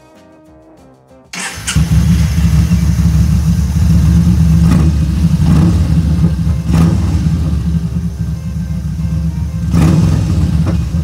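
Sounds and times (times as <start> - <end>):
motorcycle engine idling: 1.4 - 11.0.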